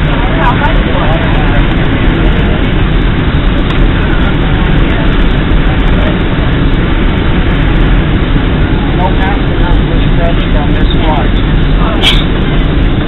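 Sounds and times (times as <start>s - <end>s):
aircraft engines rumbling: 0.0s - 13.0s
airflow past fuselage: 0.0s - 13.0s.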